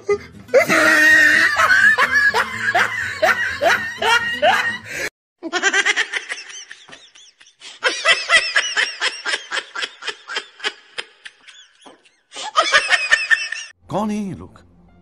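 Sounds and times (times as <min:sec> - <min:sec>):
pulsed laughter: 0:00.0 - 0:13.7.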